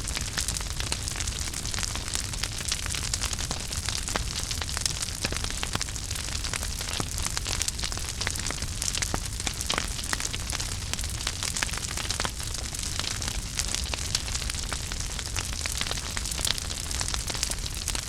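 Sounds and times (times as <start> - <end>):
fire crackling and popping: 0.0 - 18.0
fire hissing and rumbling: 0.0 - 18.0.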